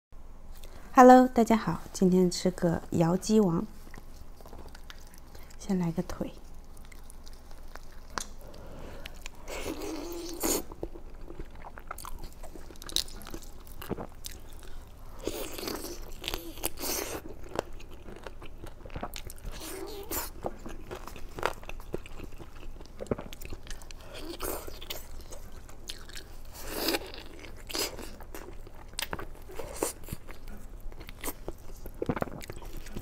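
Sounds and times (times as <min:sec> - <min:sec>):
chewing crunchy chicken: 0:03.7 - 0:05.6, 0:06.4 - 0:33.0.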